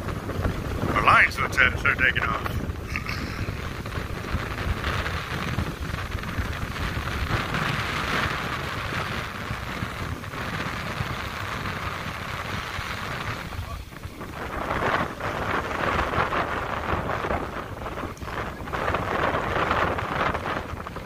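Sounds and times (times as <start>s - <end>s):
choppy water hissing: 0.0s - 21.0s
wind buffeting microphone: 0.0s - 21.0s.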